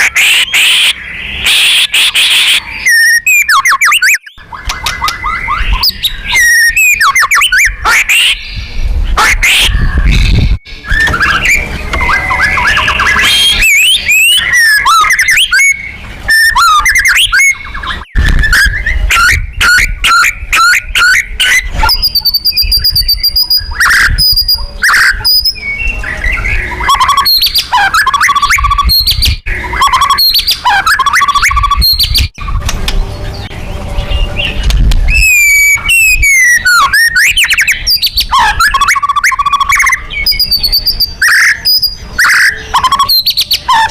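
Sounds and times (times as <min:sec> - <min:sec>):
bird singing whistles and trills: 0:00.0 - 0:43.9.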